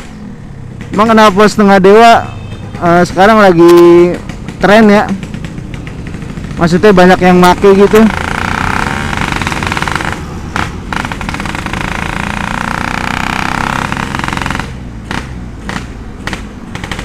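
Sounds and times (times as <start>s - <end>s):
motorcycle engine revving and popping: 0.0s - 17.0s.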